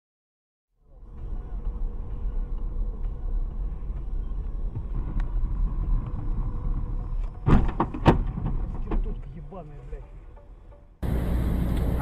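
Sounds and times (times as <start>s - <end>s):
car cabin engine and road rumble: 0.8s - 12.0s.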